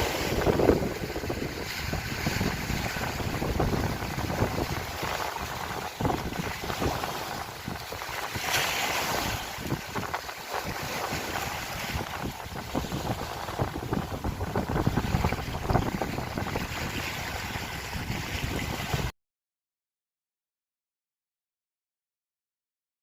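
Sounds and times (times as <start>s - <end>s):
lake waves lapping: 0.0s - 19.1s
wind buffeting microphone: 0.0s - 19.1s.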